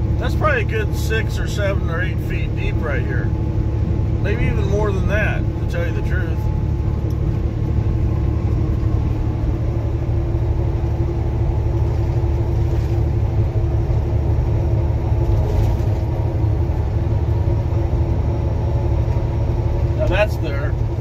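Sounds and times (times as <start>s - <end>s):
constant hum: 0.0s - 21.0s
road rumble: 0.0s - 21.0s
truck engine drone: 0.0s - 21.0s.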